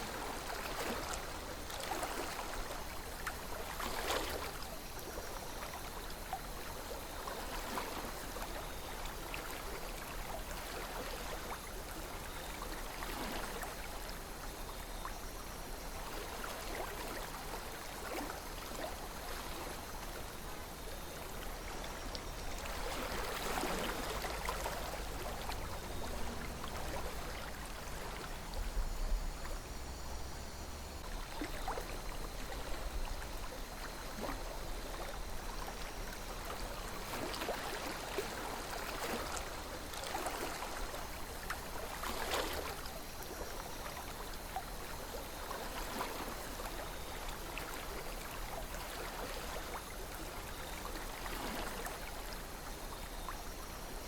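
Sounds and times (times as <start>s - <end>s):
water splashing and gurgling: 0.0s - 15.0s, 15.8s - 53.9s
river water flowing: 0.0s - 54.0s.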